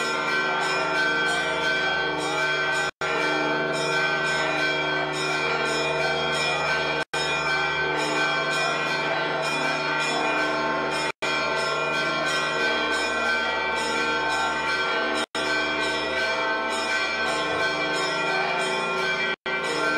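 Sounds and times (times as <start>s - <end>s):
church bells ringing: 0.0s - 19.9s.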